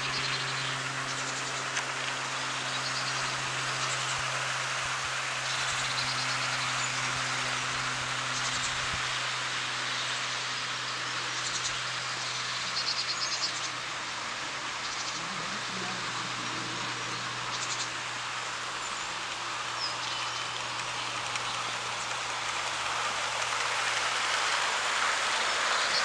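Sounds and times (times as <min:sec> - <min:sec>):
model train wheels whirring: 0:00.0 - 0:26.0.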